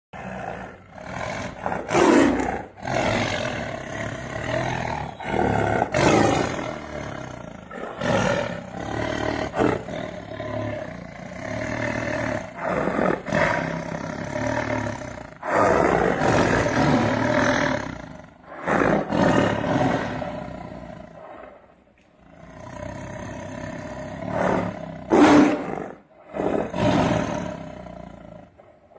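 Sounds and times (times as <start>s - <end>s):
tiger roaring: 0.2s - 28.9s.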